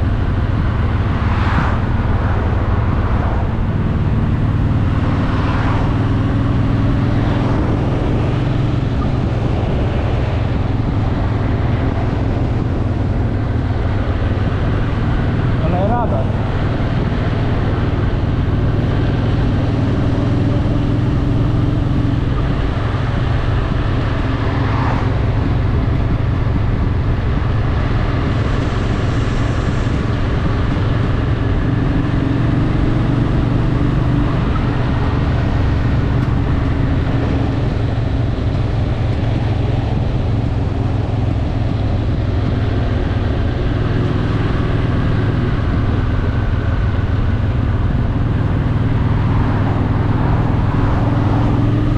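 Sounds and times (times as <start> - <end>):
motorcycle engine cruising: 0.0 - 51.9
road noise: 0.0 - 51.9
wind: 0.0 - 51.9.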